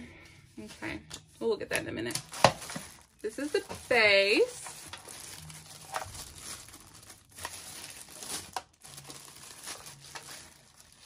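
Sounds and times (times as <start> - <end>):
plastic packaging crinkling: 2.0 - 11.0.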